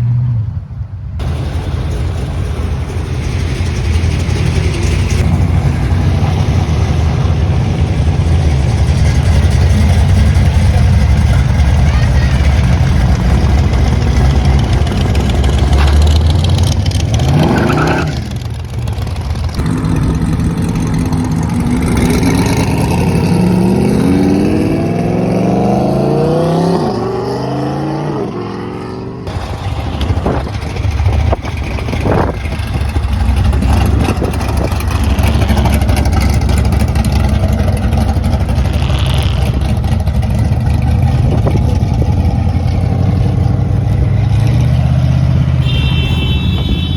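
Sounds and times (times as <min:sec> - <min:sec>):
car engines rumbling: 0:00.0 - 0:46.9
car engine revving: 0:01.2 - 0:46.0
car accelerating away: 0:03.1 - 0:45.6.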